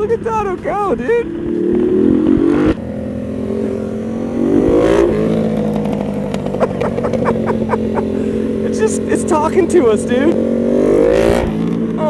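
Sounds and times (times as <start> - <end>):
exhaust crackles: 0.0 - 12.0
motorcycle engines accelerating: 0.0 - 12.0.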